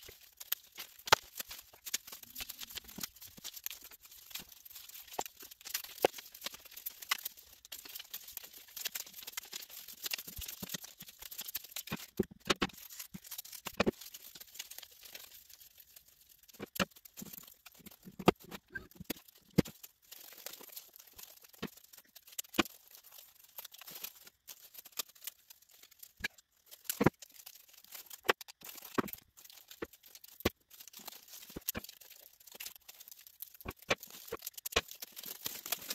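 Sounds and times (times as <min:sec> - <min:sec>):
folded paper crinkling: 0:00.0 - 0:35.9.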